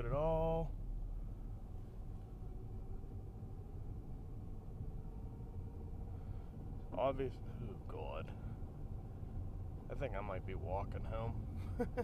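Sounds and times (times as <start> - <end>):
car interior engine rumble: 0.0 - 12.0
faint drivetrain whine: 0.0 - 12.0.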